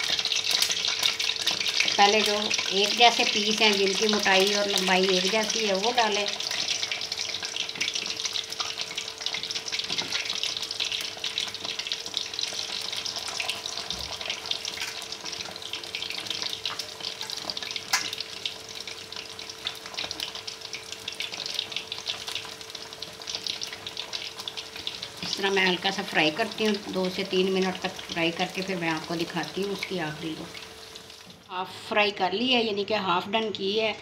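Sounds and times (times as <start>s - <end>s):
fish frying in hot oil: 0.0s - 31.5s.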